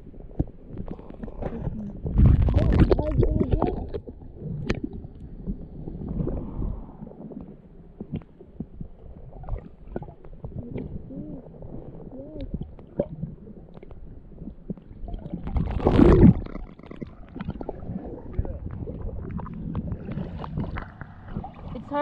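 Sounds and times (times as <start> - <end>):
underwater gurgling rumble: 0.0 - 22.0
underwater clicks and bubbly pops: 0.3 - 5.3, 7.4 - 11.2, 12.3 - 21.8.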